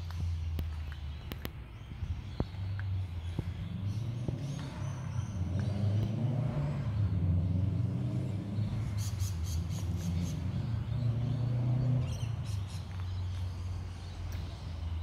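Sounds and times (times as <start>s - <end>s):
engine and traffic rumble: 0.0s - 15.0s.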